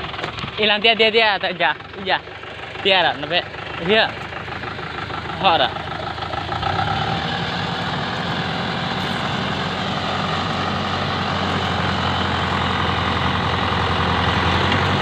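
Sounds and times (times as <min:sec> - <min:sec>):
heavy vehicle engine under load: 0:00.0 - 0:15.0.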